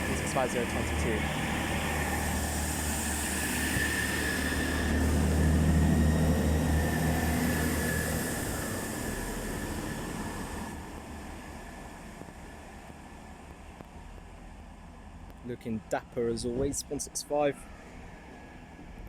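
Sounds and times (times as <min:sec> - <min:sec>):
diesel train engine drone: 0:00.0 - 0:19.0
thin steady whine: 0:00.0 - 0:19.0.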